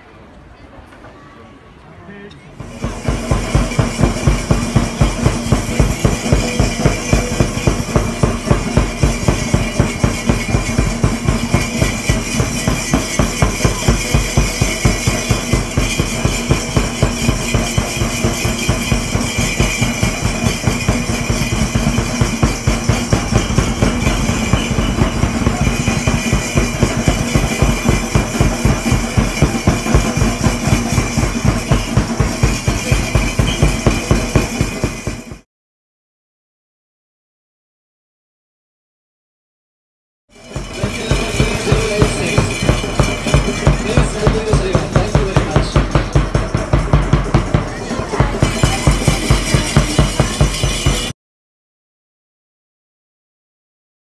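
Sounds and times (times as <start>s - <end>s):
loud music with fast drum beat: 2.6s - 35.4s, 40.4s - 51.1s.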